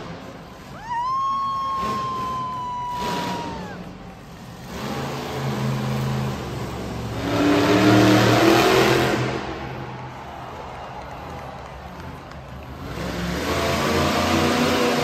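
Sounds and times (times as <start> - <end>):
monster truck engine revving: 0.0 - 0.7, 1.4 - 15.0.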